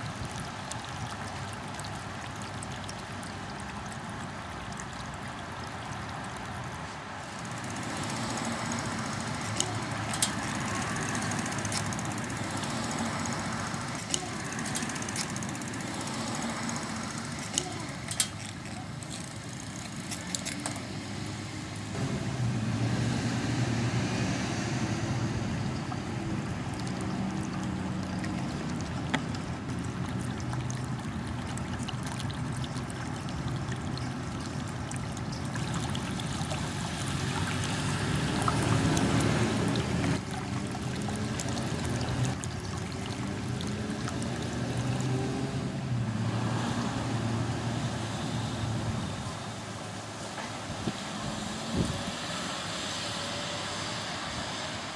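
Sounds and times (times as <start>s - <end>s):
fountain water trickling: 0.0s - 54.9s
road traffic: 0.0s - 54.9s.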